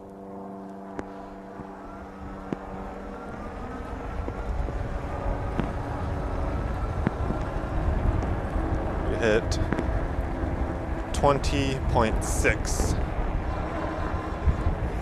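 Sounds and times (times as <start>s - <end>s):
fat tyres rumbling on pavement: 0.0s - 15.0s
steady hum: 0.0s - 15.0s
wind on microphone: 1.0s - 15.0s.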